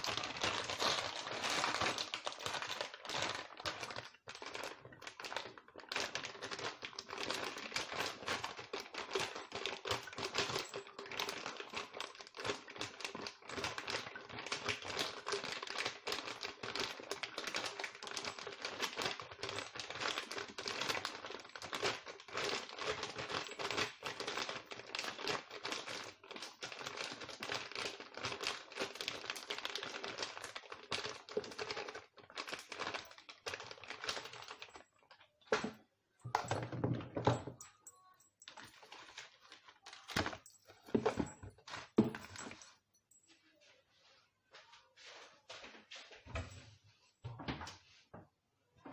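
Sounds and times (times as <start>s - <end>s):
prawns clicking into plastic jar: 0.0s - 42.8s
plastic rustling: 0.0s - 47.0s.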